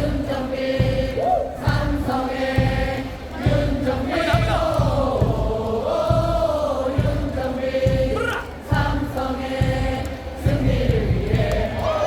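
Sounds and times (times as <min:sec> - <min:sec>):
crowd chanting in unison: 0:00.0 - 0:12.0
low drum beats: 0:00.0 - 0:12.0.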